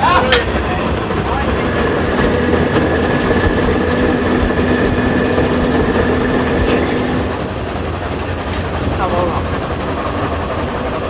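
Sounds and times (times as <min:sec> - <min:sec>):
diesel locomotive droning: 0:00.0 - 0:11.0
steam train clattering: 0:00.0 - 0:11.0.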